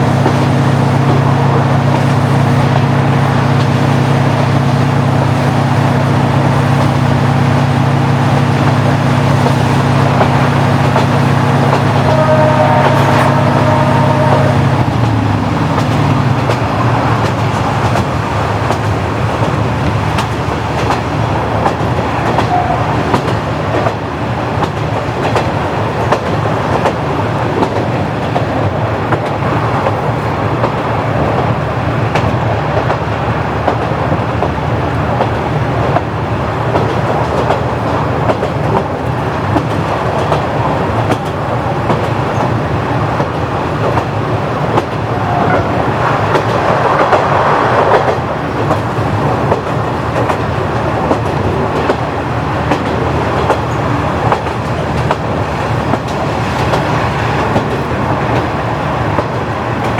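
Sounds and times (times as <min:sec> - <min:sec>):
diesel railcar engine rumble: 0:00.0 - 0:59.9
wheels clicking over rail joints: 0:00.0 - 0:59.9.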